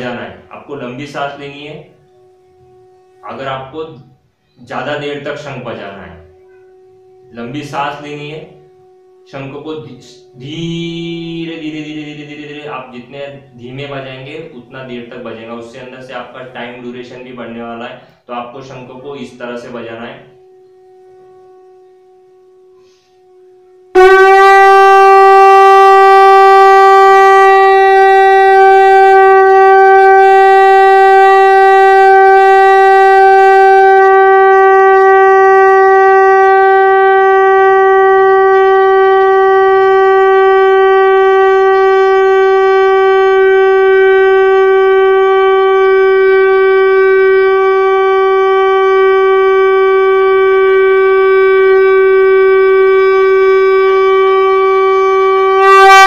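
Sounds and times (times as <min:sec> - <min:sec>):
conch shell blown: 0:00.0 - 0:56.0.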